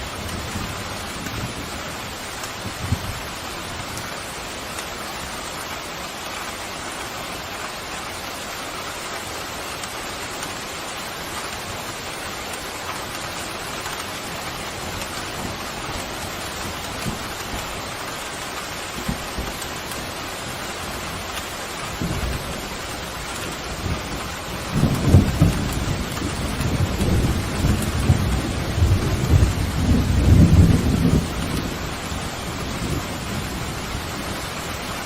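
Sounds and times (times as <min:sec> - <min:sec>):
pouring rain: 0:00.0 - 0:35.0.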